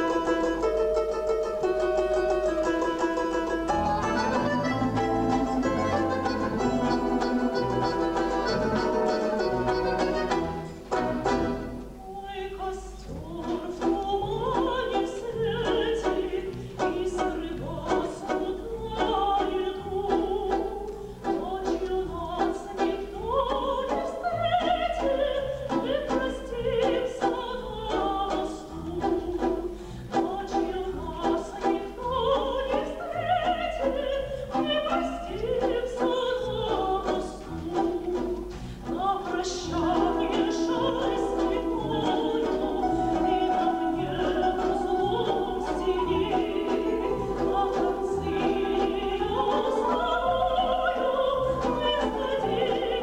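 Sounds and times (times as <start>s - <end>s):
folk instrument ensemble: 0.0s - 53.0s
woman singing operatically: 0.0s - 53.0s.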